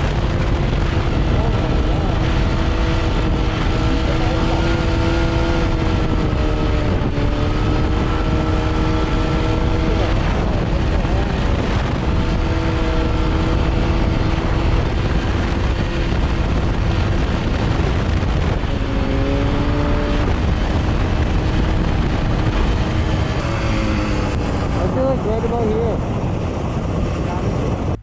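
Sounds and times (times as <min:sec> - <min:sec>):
off-road vehicle engine running: 0:00.0 - 0:28.0
wind rumble on microphone: 0:00.0 - 0:28.0.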